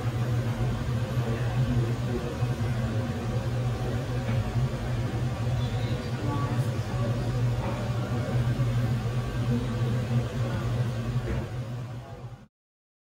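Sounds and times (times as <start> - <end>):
low machine hum: 0.0 - 12.5.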